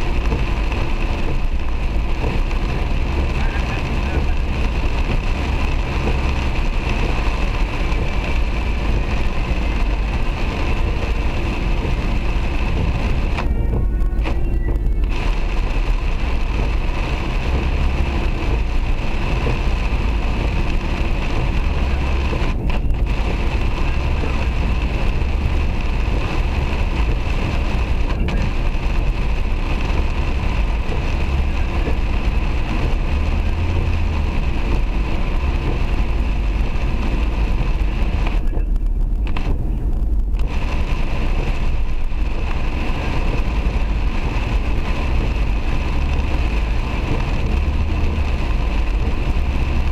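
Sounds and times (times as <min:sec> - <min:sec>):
rain drumming on car roof: 0:00.0 - 0:49.9
road and engine rumble: 0:00.0 - 0:49.9.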